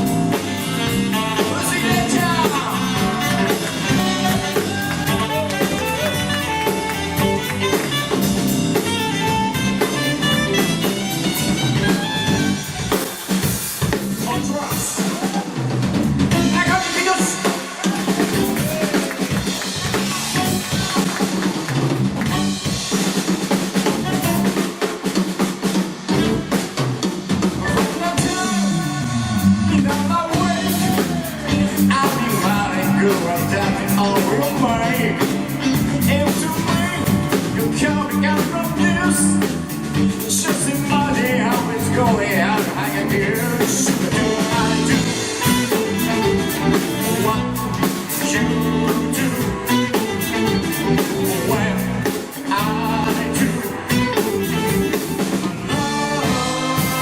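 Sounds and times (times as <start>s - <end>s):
lead melody line: 0.0s - 14.7s, 18.2s - 24.8s, 27.4s - 57.0s
electric guitar: 0.0s - 15.4s, 16.2s - 26.8s, 27.4s - 57.0s
bass guitar: 0.0s - 57.0s
drum kit: 0.0s - 57.0s.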